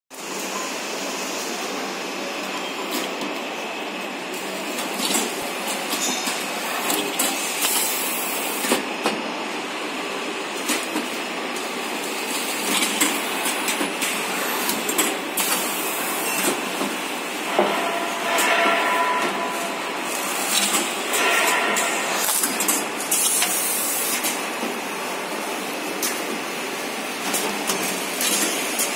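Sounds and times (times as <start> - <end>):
packing machine running: 2.3 - 28.9.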